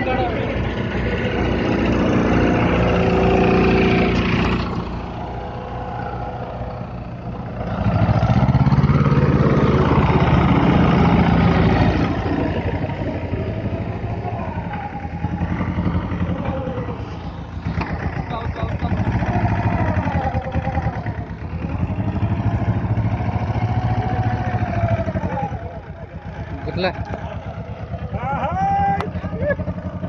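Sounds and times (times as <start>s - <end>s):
diesel tractor engine: 0.0s - 30.0s.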